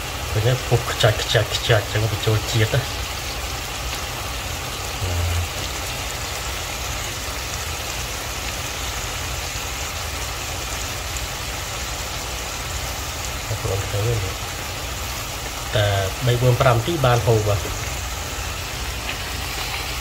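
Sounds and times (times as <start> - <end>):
shrimp sizzling in oil: 0.0 - 20.0.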